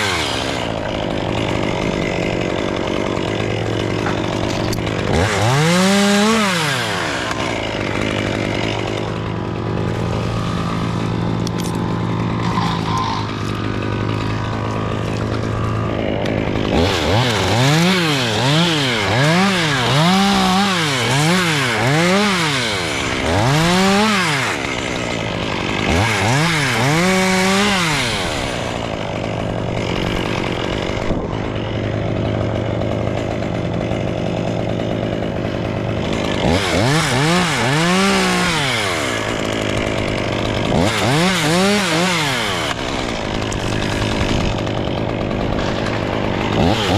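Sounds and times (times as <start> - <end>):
chainsaw idling and revving: 0.0 - 46.9.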